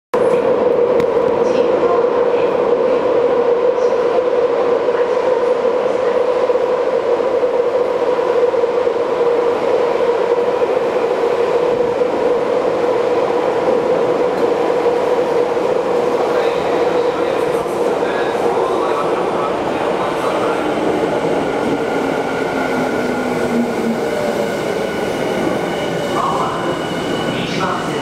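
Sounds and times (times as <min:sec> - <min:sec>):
electric train rumbling: 0:00.2 - 0:28.0.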